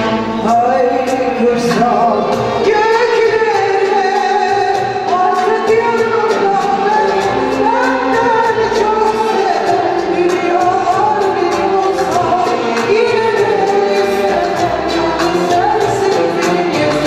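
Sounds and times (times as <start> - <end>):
violins accompanying: 0.0 - 17.0
woman singing into a microphone: 0.0 - 17.0.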